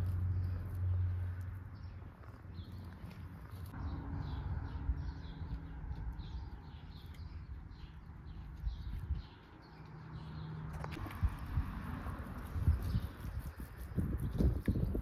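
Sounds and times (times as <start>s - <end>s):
hands rustling soil: 0.0s - 3.8s, 5.4s - 15.0s
small bird chirping: 0.0s - 11.7s, 12.4s - 15.0s.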